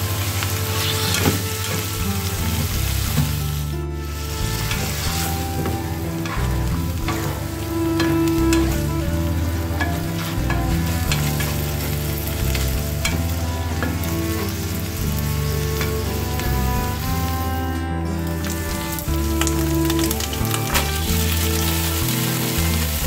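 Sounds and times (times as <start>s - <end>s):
meat and onion sizzling in a pan: 0.0s - 17.5s, 18.4s - 23.0s.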